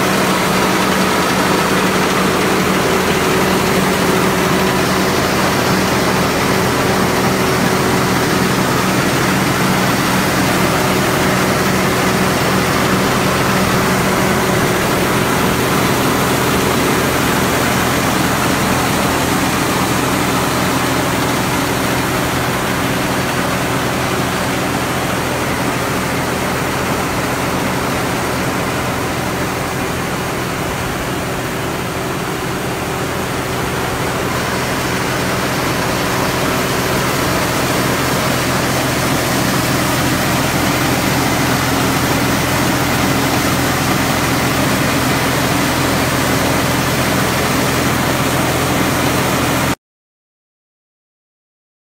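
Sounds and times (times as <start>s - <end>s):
combine harvester engine humming: 0.0s - 49.7s.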